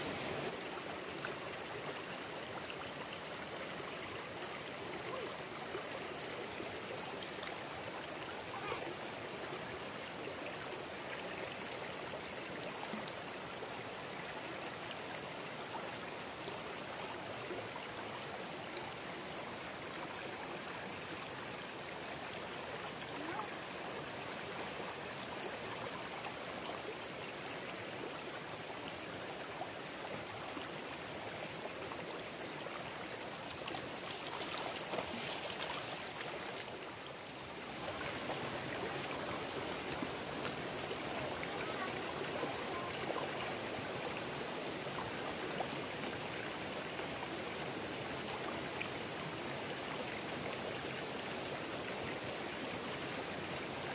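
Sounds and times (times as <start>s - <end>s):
stream flowing over rocks: 0.0s - 53.9s.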